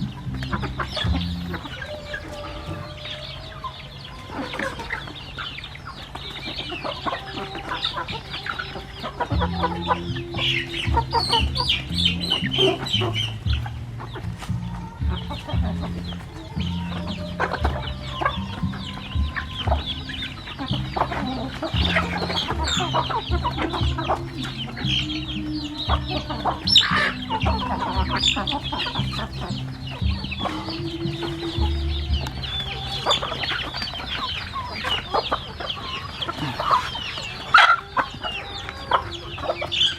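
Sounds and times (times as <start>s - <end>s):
chickens clucking: 0.0s - 39.9s
low sustained tones: 0.0s - 39.9s.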